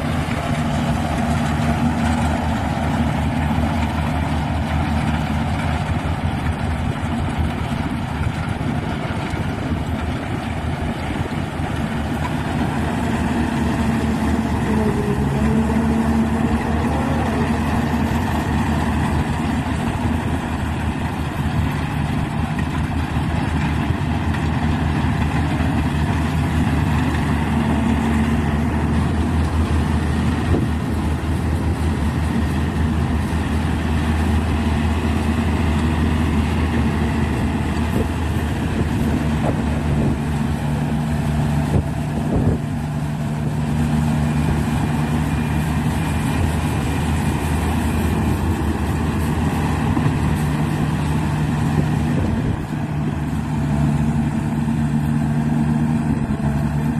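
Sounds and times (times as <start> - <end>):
combine harvester engine humming: 0.0 - 56.9.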